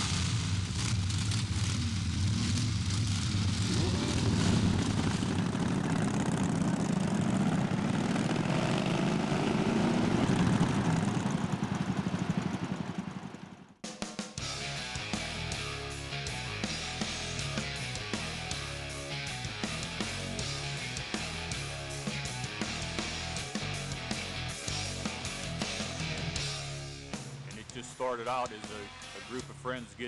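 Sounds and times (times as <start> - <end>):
motorcycle engines running: 0.0 - 13.8, 14.5 - 30.0.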